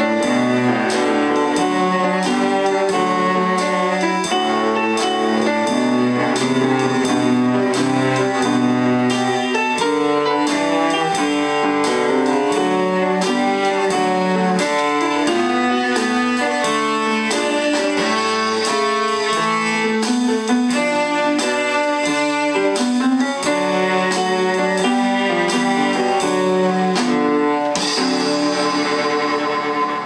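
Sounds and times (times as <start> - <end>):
cello played with bow: 0.0 - 30.0
chordal accompaniment with beat: 0.0 - 30.0.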